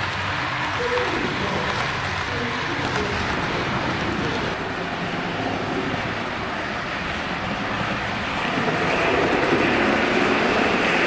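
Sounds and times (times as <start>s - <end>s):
model train wheels rumbling on rails: 0.0s - 11.0s.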